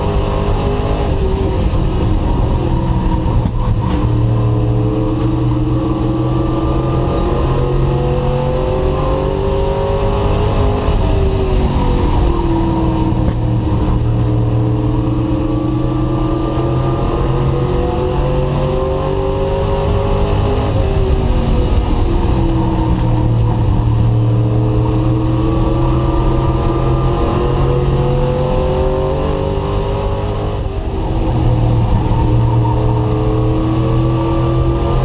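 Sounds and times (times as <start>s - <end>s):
race truck engine revving: 0.0s - 35.0s.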